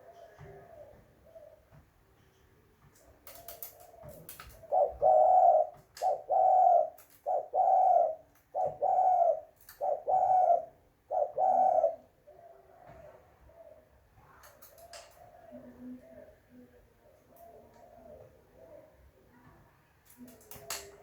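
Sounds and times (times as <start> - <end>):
dove cooing: 0.0 - 1.8, 3.3 - 19.5.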